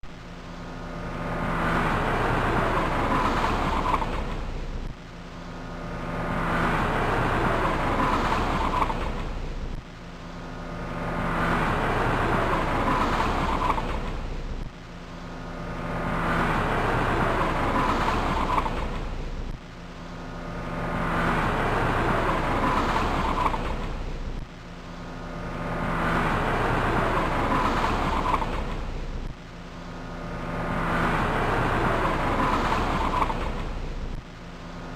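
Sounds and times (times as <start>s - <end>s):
car engine hum: 0.0s - 34.9s
tyre and road noise: 0.0s - 34.9s.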